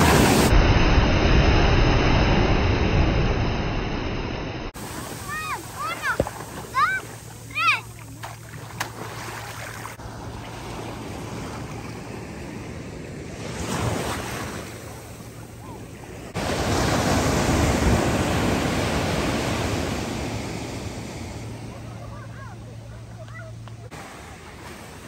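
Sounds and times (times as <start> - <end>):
ocean surf on beach: 0.0 - 25.0.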